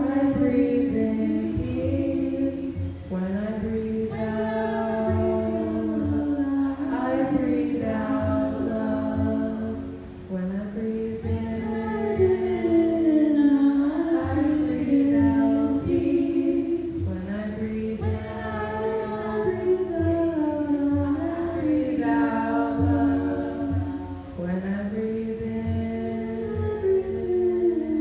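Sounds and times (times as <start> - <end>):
voices singing a slow chant: 0.0 - 28.0.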